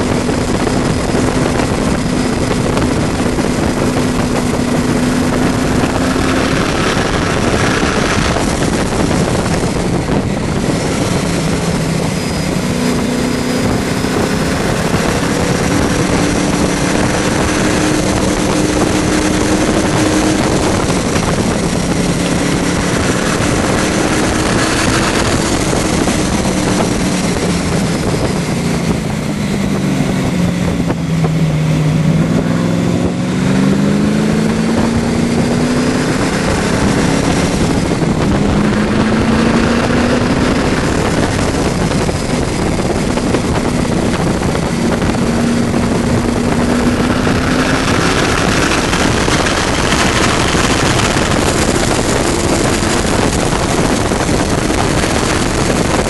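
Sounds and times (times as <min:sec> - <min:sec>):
car engine revving at speed: 0:00.0 - 0:56.0
wind rushing over microphone: 0:00.0 - 0:56.0.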